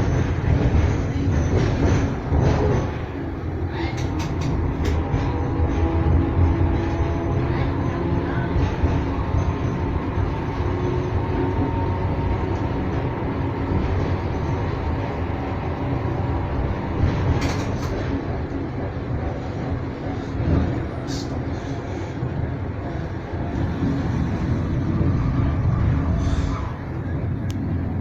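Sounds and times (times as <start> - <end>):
tram rumbling on track: 0.0 - 28.0.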